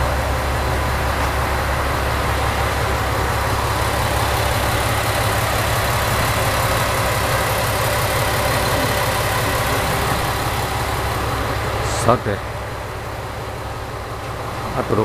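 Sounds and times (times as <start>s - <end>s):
diesel railcar engine idling: 0.0s - 15.0s.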